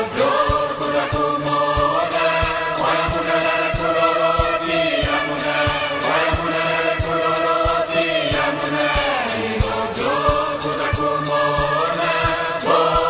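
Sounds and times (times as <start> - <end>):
choir singing a chant: 0.0 - 13.0
steady drum beat: 0.0 - 13.0.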